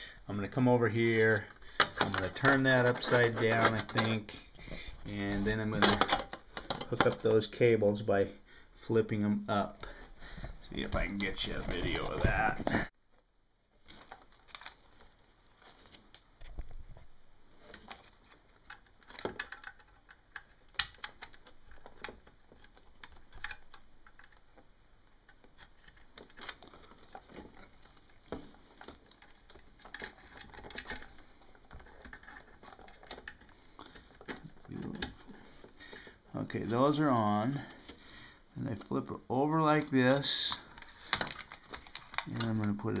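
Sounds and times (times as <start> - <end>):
hands clicking and rustling cables: 0.8 - 7.5, 9.8 - 12.9, 13.8 - 43.0.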